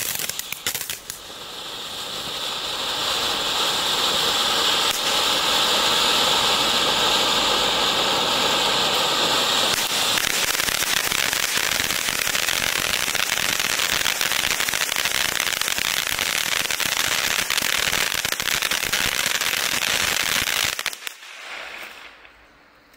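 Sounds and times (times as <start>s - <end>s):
firework fountain hissing and crackling: 0.0s - 22.9s.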